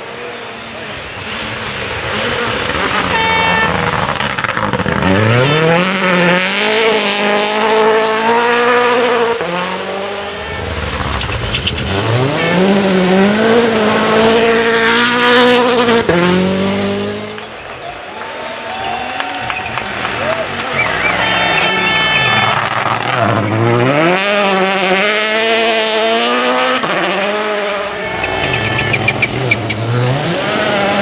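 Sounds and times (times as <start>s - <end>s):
rally car engine accelerating: 0.0s - 17.8s, 19.4s - 31.0s.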